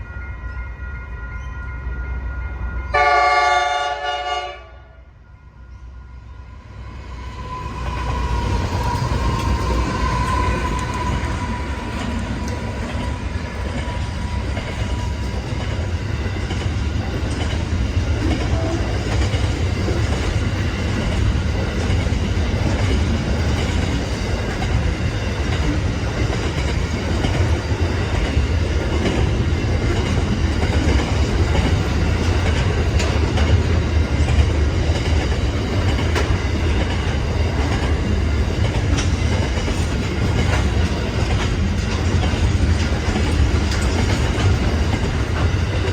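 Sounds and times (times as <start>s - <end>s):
freight train rumble: 0.0s - 45.9s
wheels clacking over rail joints: 7.7s - 45.9s.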